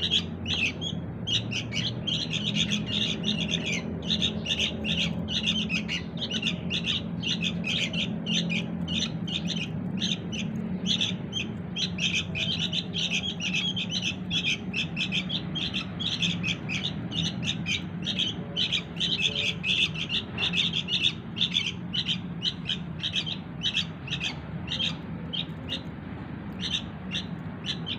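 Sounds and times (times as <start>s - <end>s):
bird chicks chirping: 0.0s - 27.9s.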